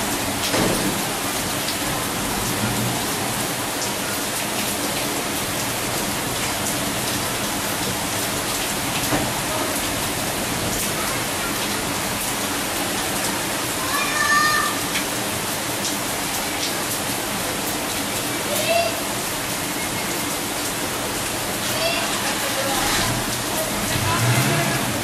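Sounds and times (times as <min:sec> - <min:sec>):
rain hissing: 0:00.0 - 0:25.0.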